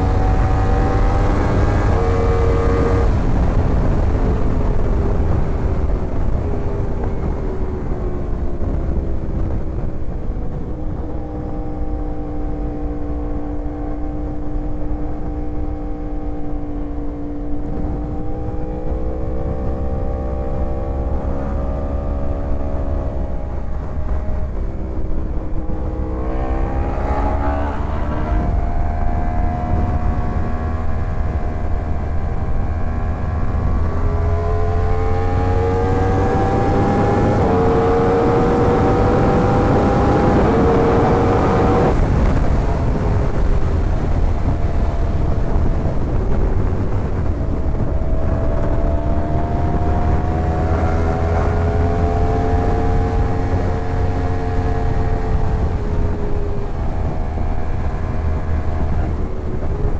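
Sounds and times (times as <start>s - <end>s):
motorcycle engine revving: 0.0s - 59.9s
wind rumble on microphone: 0.0s - 59.9s.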